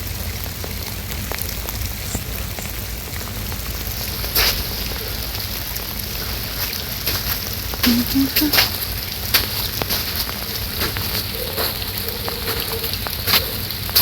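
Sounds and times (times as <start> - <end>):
wet snow falling: 0.0 - 14.0.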